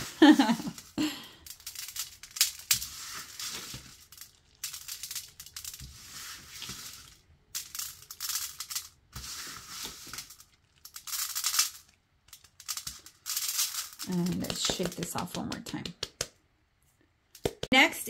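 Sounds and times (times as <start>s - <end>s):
sprinkles rattling on metal tray: 0.2s - 15.5s.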